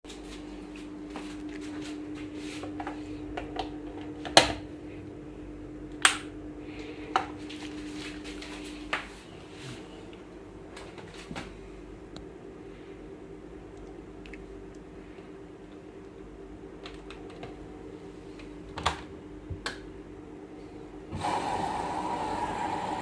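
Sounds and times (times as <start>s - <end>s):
steady hum: 0.1s - 23.0s.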